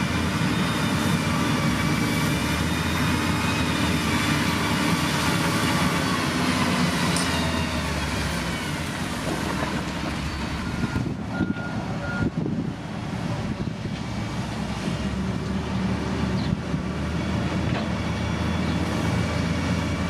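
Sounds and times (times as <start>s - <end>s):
diesel machinery engine rumble: 0.0s - 20.0s.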